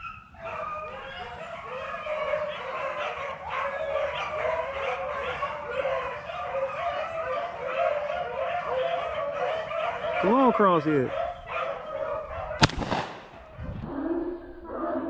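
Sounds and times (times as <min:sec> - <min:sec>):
dogs baying in chorus: 0:00.0 - 0:15.0.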